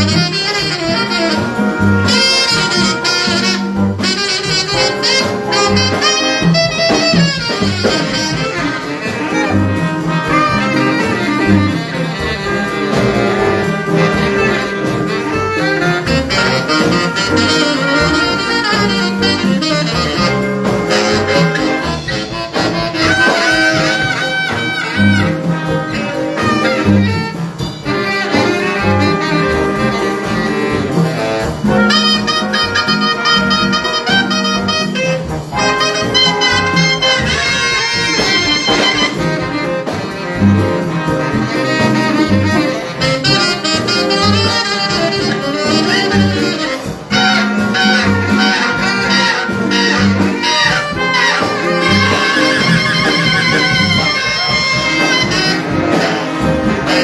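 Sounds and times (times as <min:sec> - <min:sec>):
jazz big band playing: 0:00.0 - 0:57.0
saxophones: 0:00.0 - 0:57.0
trombones: 0:00.0 - 0:57.0
trumpets: 0:00.0 - 0:57.0
walking bass line: 0:00.0 - 0:57.0.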